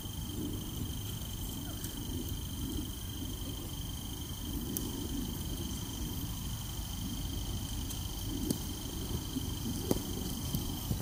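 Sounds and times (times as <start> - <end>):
high insect trill: 0.0 - 11.0
wind rumble on microphone: 0.0 - 11.0.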